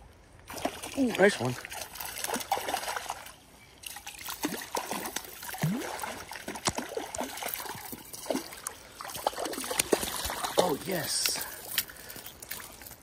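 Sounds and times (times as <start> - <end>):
fish splashing in water: 0.5 - 12.8.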